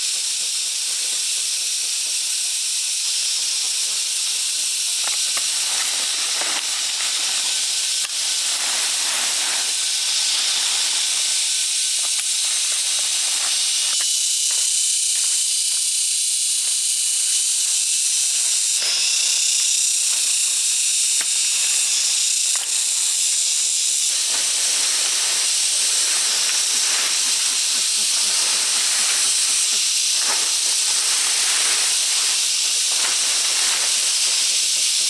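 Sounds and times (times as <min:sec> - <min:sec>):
loud high hiss: 0:00.0 - 0:35.0.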